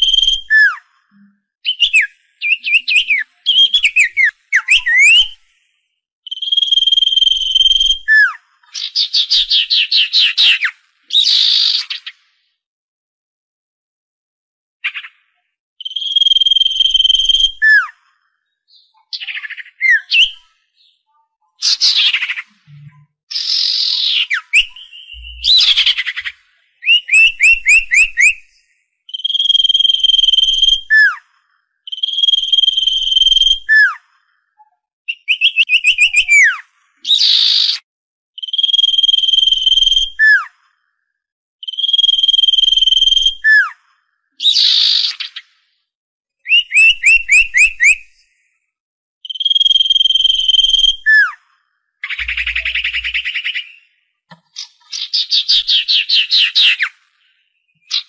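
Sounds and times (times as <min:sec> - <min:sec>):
bird song with whistles: 0:00.0 - 0:12.1, 0:14.8 - 0:37.8, 0:38.4 - 0:40.7, 0:41.6 - 0:45.5, 0:46.4 - 0:48.6, 0:49.2 - 0:58.0.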